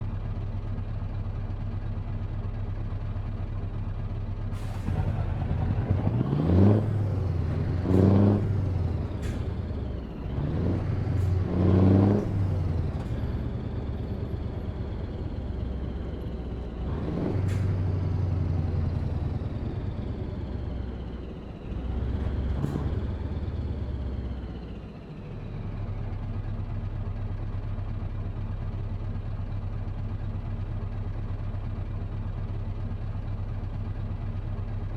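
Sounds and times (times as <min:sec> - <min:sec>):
truck diesel engine idling and revving: 0:00.0 - 0:34.9.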